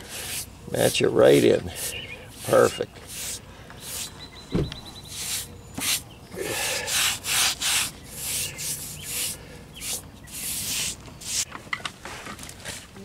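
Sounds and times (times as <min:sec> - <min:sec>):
sponge scrubbing concrete: 0:00.0 - 0:04.1, 0:05.1 - 0:11.5.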